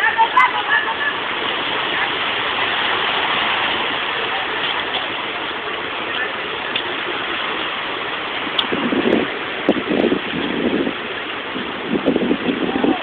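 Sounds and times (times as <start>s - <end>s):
sea surf washing on shore: 0.0s - 13.0s.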